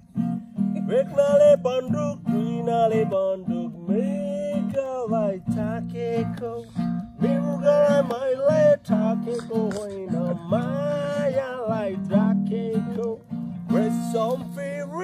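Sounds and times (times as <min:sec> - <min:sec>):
acoustic guitar strumming: 0:00.0 - 0:15.0
person singing: 0:00.6 - 0:15.0.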